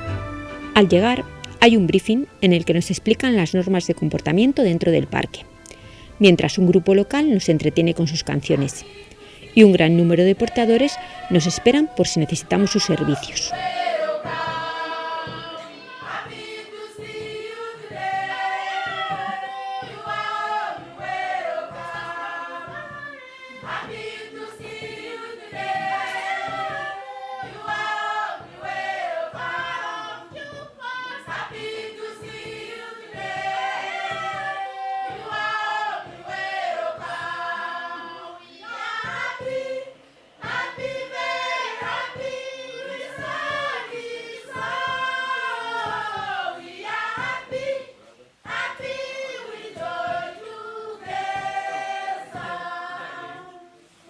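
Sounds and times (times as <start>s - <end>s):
group singing together: 0.0s - 54.0s.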